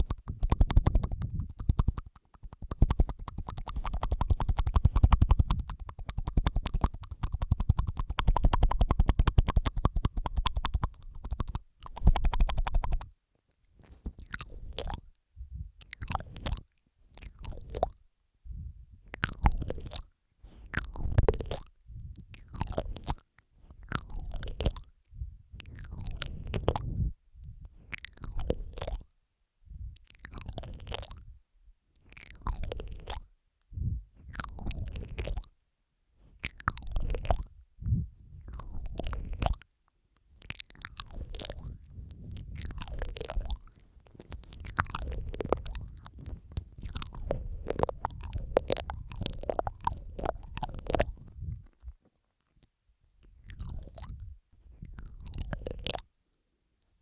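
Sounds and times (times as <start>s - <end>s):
wet tongue clicks and smacks: 0.0s - 29.2s, 30.0s - 31.3s, 32.0s - 33.3s, 34.2s - 35.6s, 36.2s - 37.6s, 38.4s - 56.4s.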